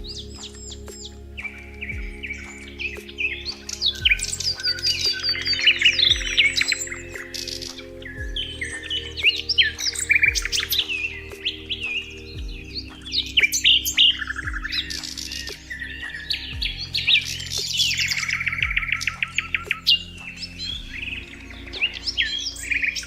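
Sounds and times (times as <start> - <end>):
birds chirping and singing: 0.0 - 23.0
soft background music: 0.0 - 23.0.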